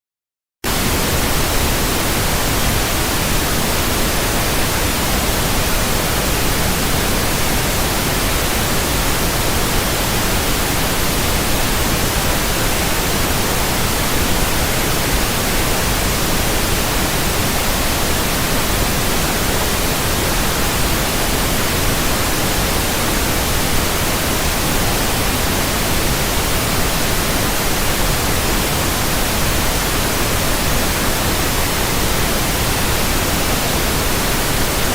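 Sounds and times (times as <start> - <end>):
loud static hiss: 0.6 - 34.9.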